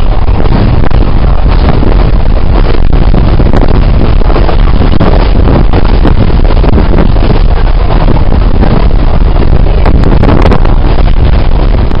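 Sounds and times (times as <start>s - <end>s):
moving passenger train: 0.0s - 12.0s
wind buffeting microphone: 0.0s - 12.0s.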